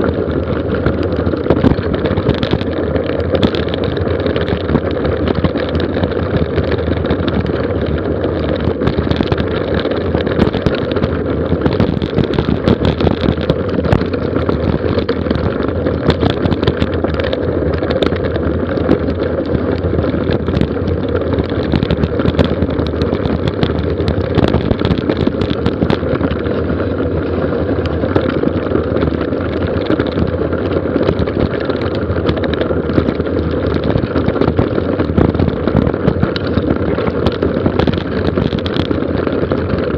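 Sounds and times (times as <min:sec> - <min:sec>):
bike rattles and clicks: 0:00.0 - 0:39.9
tyres crunching over gravel: 0:00.0 - 0:39.9
wind rumble on microphone: 0:00.0 - 0:39.9.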